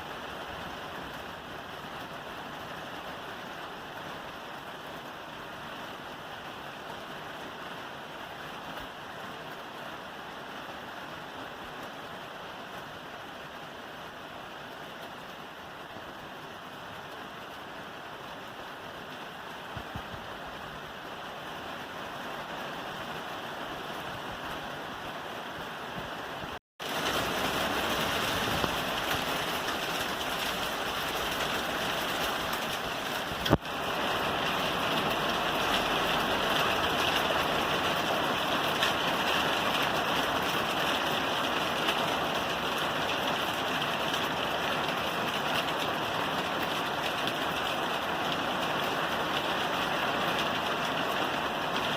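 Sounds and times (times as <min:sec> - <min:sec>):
rain on a roof: 0:00.0 - 0:51.9.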